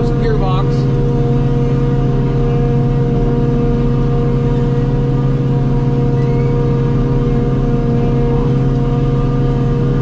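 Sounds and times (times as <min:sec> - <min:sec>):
harvester engine running under load: 0:00.0 - 0:10.0.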